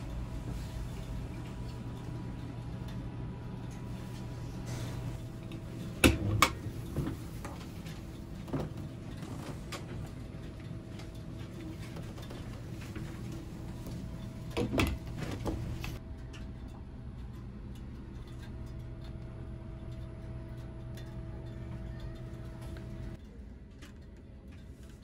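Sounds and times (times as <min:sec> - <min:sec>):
steady hum with low drone: 0:00.0 - 0:25.0.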